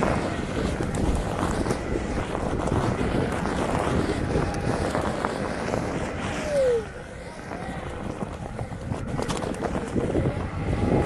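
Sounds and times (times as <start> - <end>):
electric board rolling on dirt: 0.0 - 11.0
wind buffeting microphone: 0.0 - 11.0.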